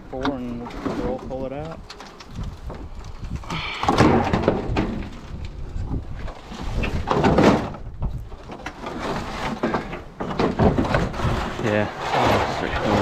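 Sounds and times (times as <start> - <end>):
tin sheets scraping and rattling: 0.2 - 13.0.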